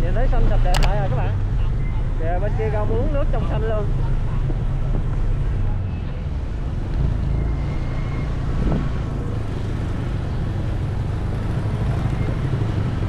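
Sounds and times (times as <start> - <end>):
motorbike engine rumble: 0.6 - 13.0.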